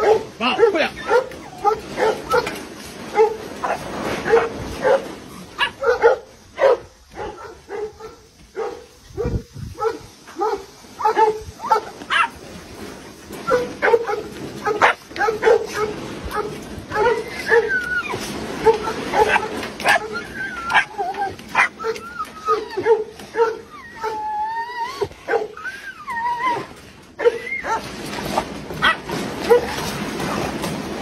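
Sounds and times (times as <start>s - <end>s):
dogs barking and yelping: 0.0s - 31.0s.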